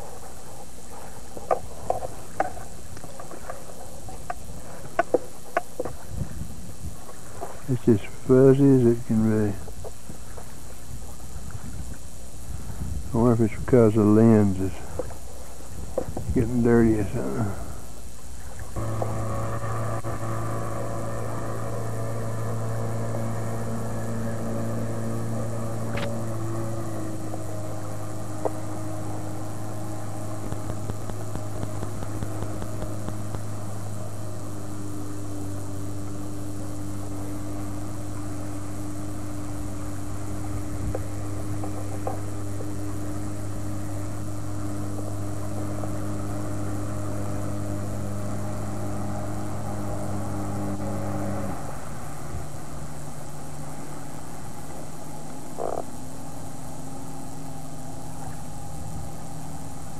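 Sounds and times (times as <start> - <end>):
boat motor humming: 0.0 - 59.9.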